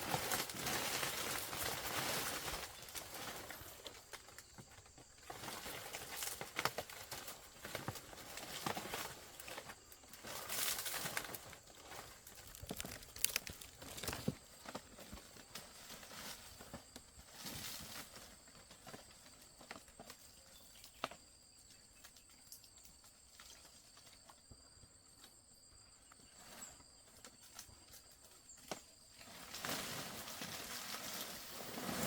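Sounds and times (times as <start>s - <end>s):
rustling and crinkling: 0.0s - 22.6s, 26.2s - 32.0s.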